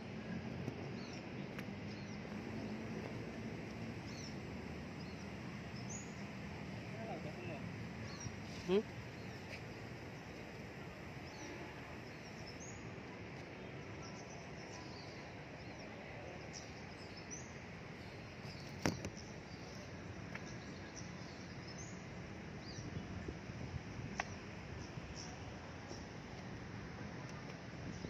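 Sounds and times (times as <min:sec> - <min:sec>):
urban background hum: 0:00.0 - 0:28.0
small birds chirping: 0:00.1 - 0:28.0.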